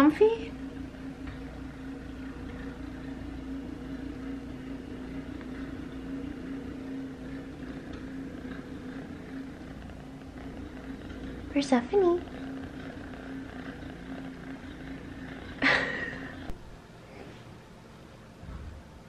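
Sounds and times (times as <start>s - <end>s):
kitten purring: 0.0s - 16.6s.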